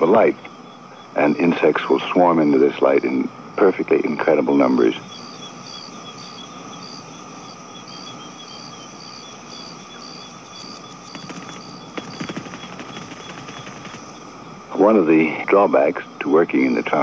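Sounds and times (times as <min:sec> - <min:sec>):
insect trill and hiss: 0:00.0 - 0:17.0
insects chirping: 0:00.0 - 0:17.0.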